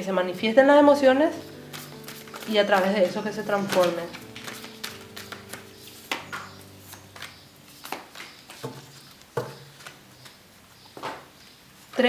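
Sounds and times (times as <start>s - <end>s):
soft background music: 0.0s - 10.3s.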